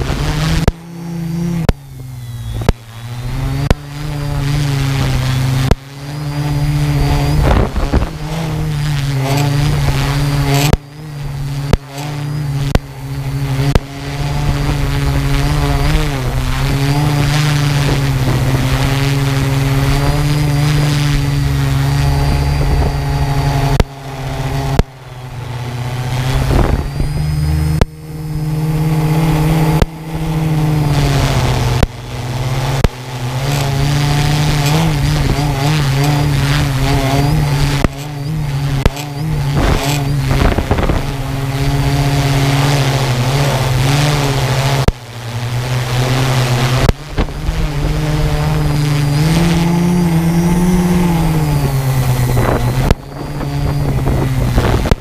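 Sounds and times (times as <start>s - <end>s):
quadcopter motors humming: 0.0s - 55.0s.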